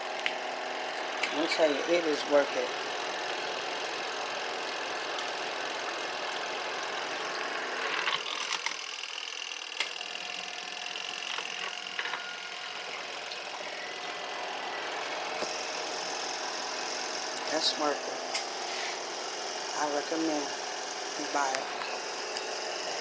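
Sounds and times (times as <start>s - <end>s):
washing machine motor churning: 0.0s - 23.0s.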